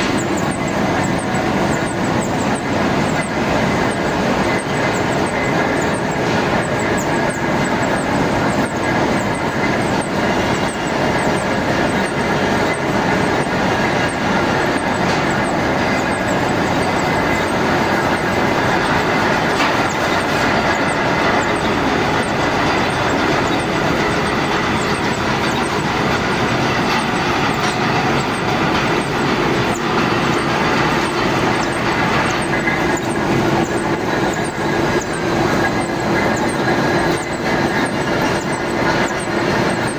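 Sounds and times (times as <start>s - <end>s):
faint steady tones: 0.0s - 39.9s
metal lathe running: 0.0s - 39.9s.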